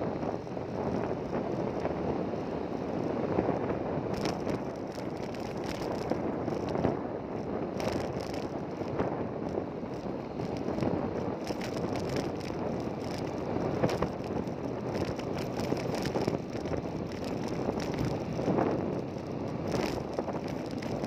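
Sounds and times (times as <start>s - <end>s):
motor vehicle running: 0.0s - 21.0s
wind buffeting microphone: 0.0s - 21.0s.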